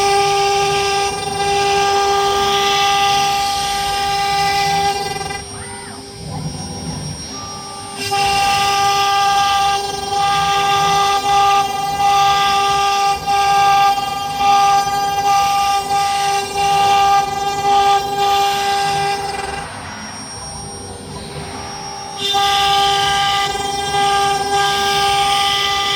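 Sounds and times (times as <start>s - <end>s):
router bit cutting wood: 0.0s - 25.9s
router spindle whine: 0.0s - 25.9s.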